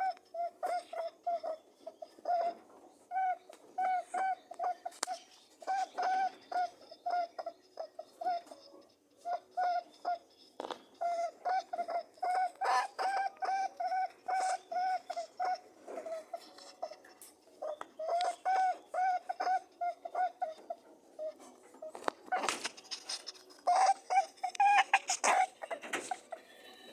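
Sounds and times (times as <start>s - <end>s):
rabbits honking: 0.0s - 26.9s.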